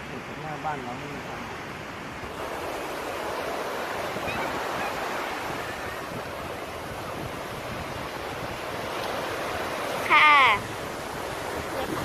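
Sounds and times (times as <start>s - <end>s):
sea waves washing on beach: 0.0s - 12.0s
wind buffeting microphone: 1.7s - 12.0s.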